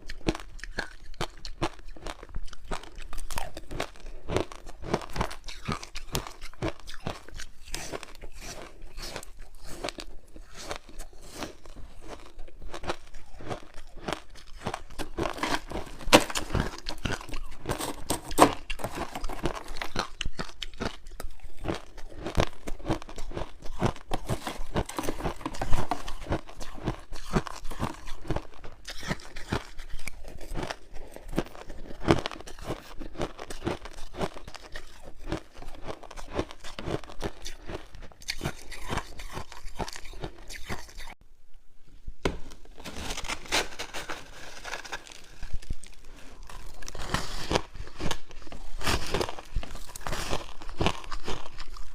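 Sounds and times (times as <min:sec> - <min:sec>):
ice crunching being chewed: 0:00.0 - 0:41.2, 0:43.2 - 0:51.9.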